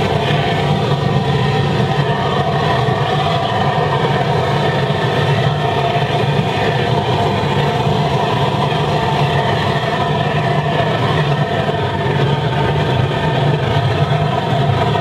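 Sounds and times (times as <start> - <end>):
low hum: 0.0 - 15.0
oil burner flame roaring: 0.0 - 15.0.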